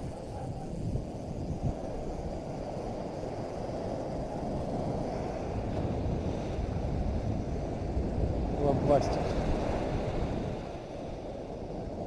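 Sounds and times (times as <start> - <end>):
small waves washing on beach: 0.0 - 12.0
wind rumbling on microphone: 0.0 - 12.0.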